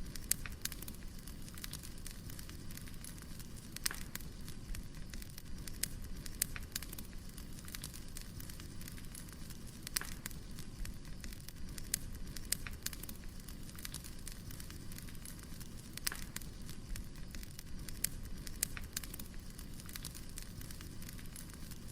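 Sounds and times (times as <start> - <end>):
rush of burning logs: 0.0 - 21.9
wood fire crackling: 0.0 - 21.9.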